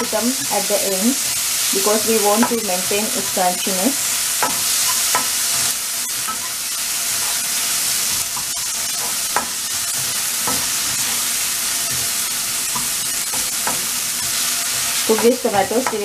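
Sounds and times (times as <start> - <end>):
vegetables sizzling in oil: 0.0 - 16.0
spatula scraping a wok: 0.3 - 16.0.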